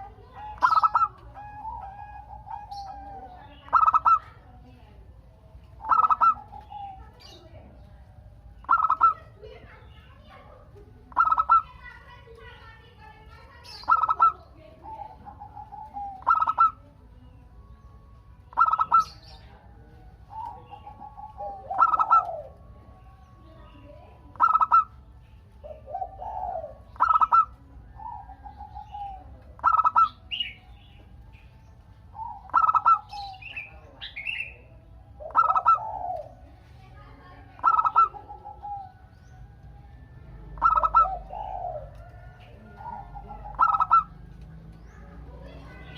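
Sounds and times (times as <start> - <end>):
dove cooing song: 0.0 - 45.9.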